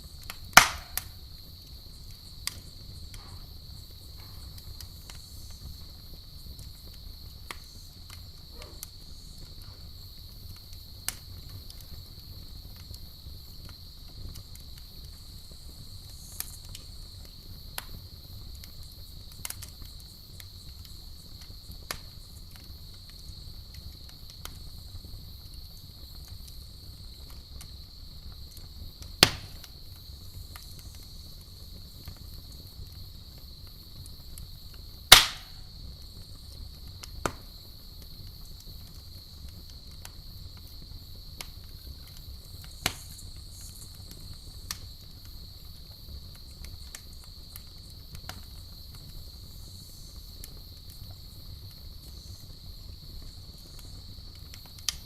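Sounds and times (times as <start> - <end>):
campfire crackling and popping: 0.0 - 55.0
crickets chirring: 0.0 - 55.0.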